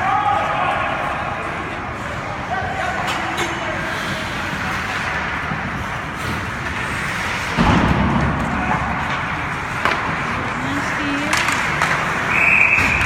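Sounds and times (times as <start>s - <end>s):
hockey play noise: 0.0s - 13.0s.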